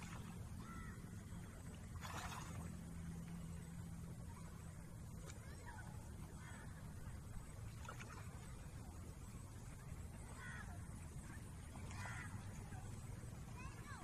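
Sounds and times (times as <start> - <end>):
steady low rumble: 0.0 - 14.0
water sloshing: 0.0 - 14.0.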